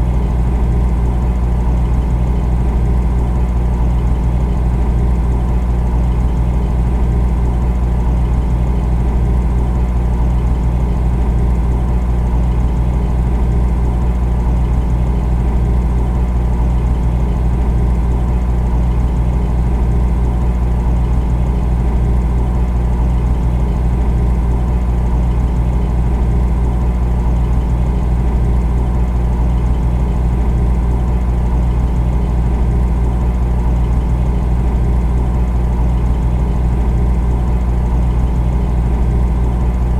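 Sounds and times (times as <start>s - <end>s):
refrigerator humming: 0.0s - 39.9s.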